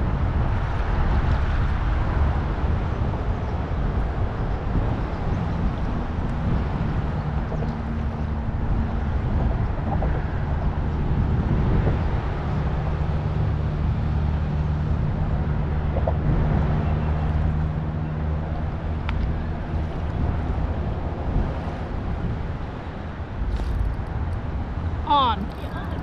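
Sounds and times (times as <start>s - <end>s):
engine droning steadily: 0.0s - 26.0s.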